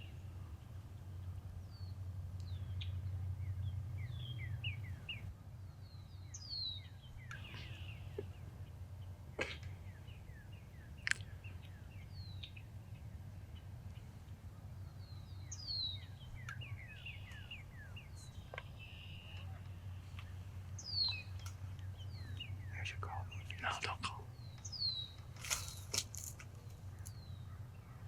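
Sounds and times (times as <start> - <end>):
low outdoor rumble: 0.0 - 28.0
small birds chirping: 0.0 - 28.0.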